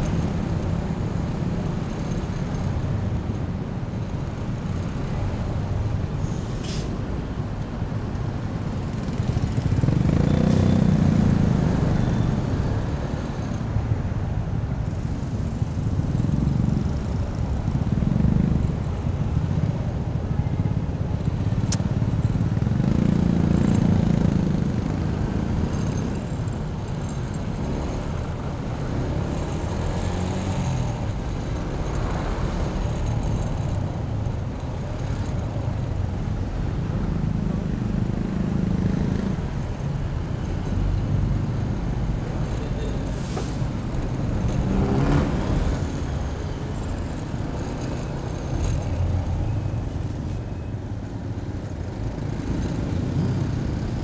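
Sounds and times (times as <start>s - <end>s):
road noise: 0.0s - 54.0s
traffic engines rumbling: 0.0s - 54.0s.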